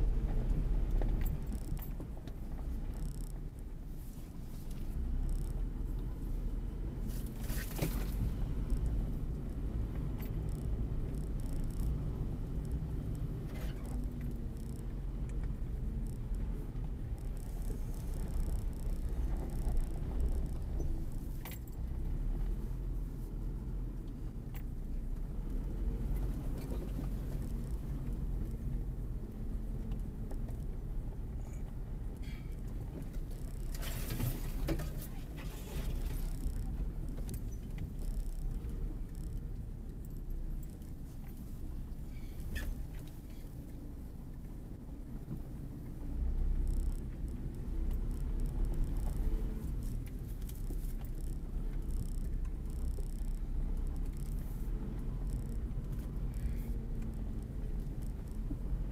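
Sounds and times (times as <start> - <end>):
car engine rumble from inside: 0.0 - 58.9
car body clicks and rattles: 0.2 - 23.2, 23.8 - 58.9.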